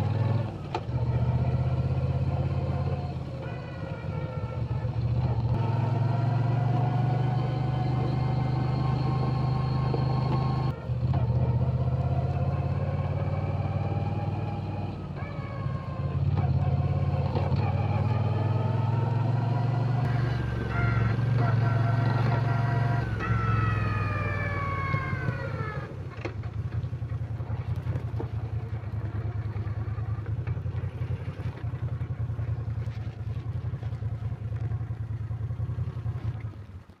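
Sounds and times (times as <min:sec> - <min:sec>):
motorcycle engine: 0:00.0 - 0:37.0.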